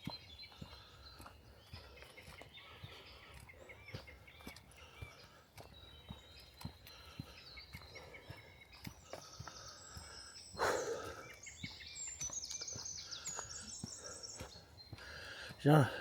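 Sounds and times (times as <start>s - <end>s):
footsteps on woodland trail: 0.0s - 16.0s
songbirds chirping and trilling: 0.0s - 16.0s.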